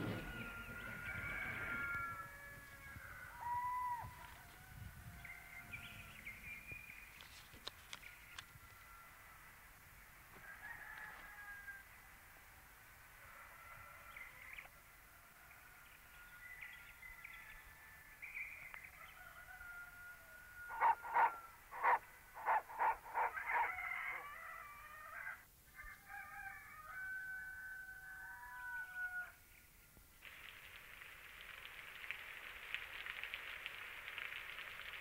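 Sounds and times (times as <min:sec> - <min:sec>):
chickens gliding calls: 0:00.0 - 0:12.0, 0:13.2 - 0:29.4.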